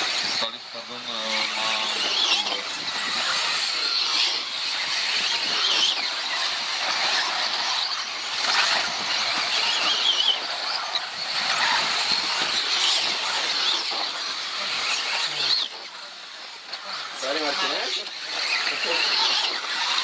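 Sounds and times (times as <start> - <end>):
small motors whining: 0.0 - 20.0.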